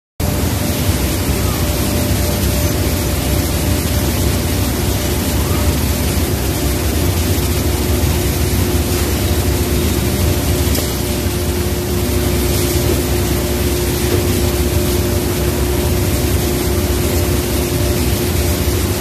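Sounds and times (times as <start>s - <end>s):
loud machinery din: 0.2s - 19.0s.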